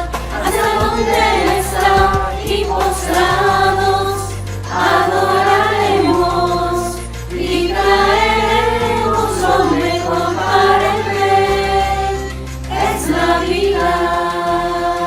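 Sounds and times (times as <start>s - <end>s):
choir singing: 0.0s - 15.0s
instrumental accompaniment: 0.0s - 15.0s.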